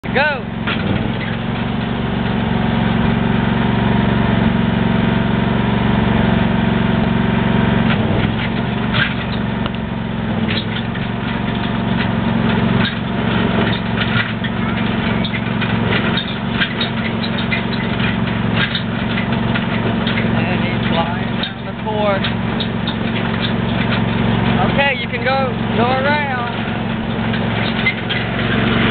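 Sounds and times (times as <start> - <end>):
engine droning: 0.0 - 28.9.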